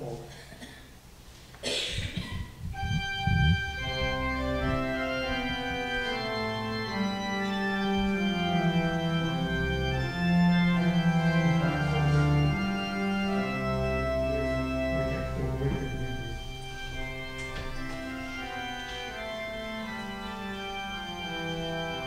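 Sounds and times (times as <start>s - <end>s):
church organ held chords: 2.6s - 22.0s
deep organ bass note: 2.6s - 22.0s.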